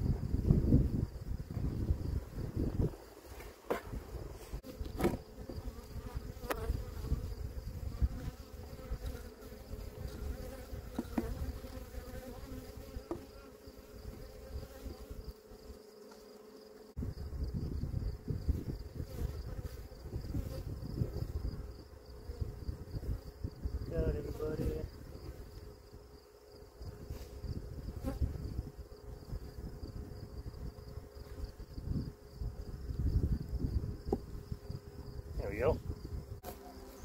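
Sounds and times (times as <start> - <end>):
honeybees buzzing: 0.2 - 37.0.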